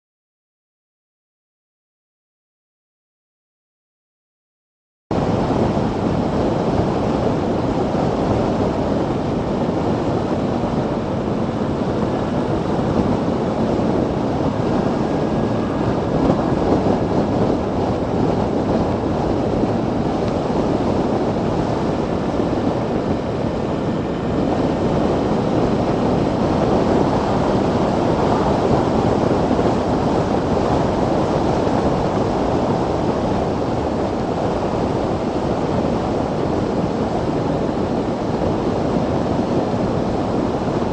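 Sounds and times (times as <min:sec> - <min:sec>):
motorcycle road noise: 0:05.1 - 0:40.9
wind rushing on microphone: 0:05.1 - 0:40.9.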